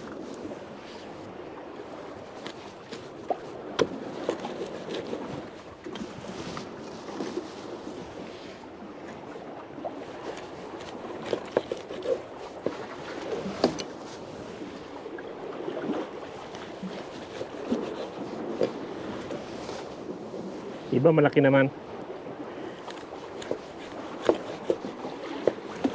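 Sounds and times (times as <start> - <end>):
wind: 0.0 - 25.9.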